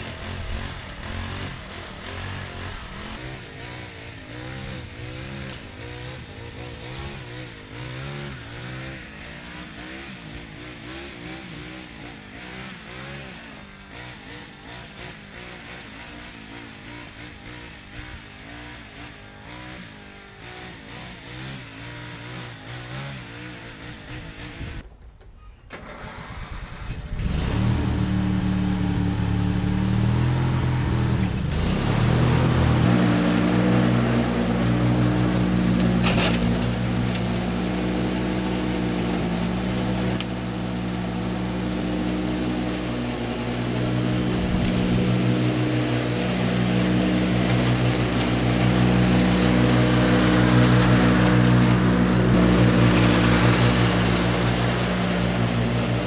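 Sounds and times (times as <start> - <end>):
ride-on lawn mower engine: 0.0 - 56.0.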